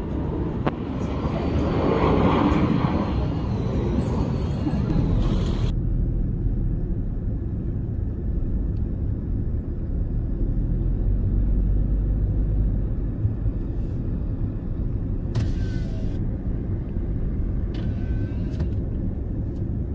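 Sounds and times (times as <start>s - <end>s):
car cabin road rumble: 3.7s - 19.9s.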